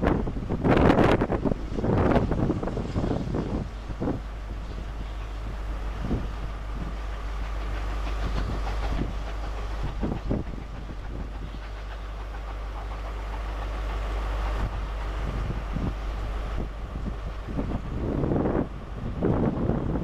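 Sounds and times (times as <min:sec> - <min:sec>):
steam locomotive working hard: 0:00.0 - 0:20.0.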